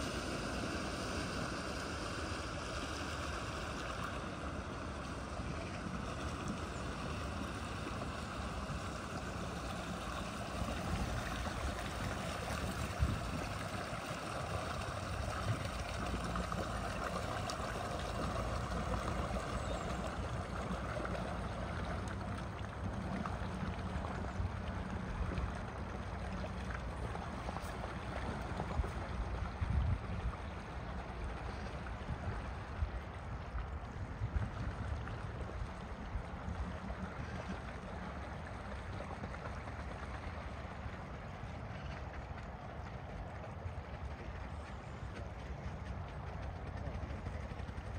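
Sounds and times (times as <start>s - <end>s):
low engine hum: 0.0s - 47.9s
water rushing and sloshing: 0.0s - 47.9s.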